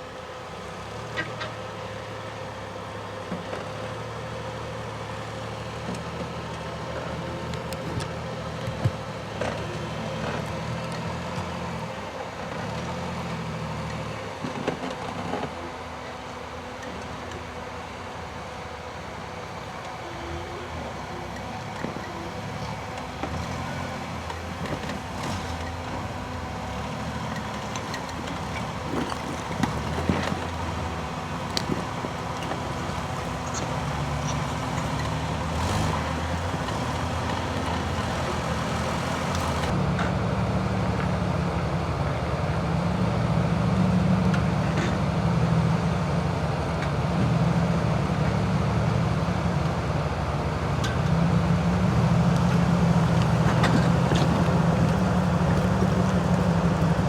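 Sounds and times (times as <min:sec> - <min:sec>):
off-road engine at low revs: 0:00.0 - 0:57.0.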